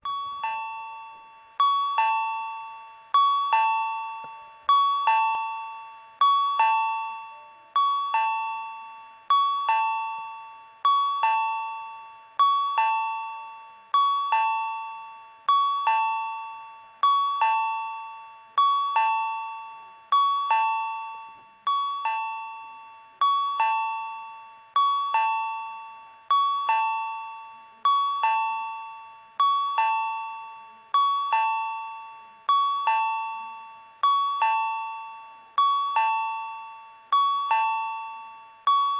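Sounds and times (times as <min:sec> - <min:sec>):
two-note ding-dong chime: 0:00.0 - 0:38.9.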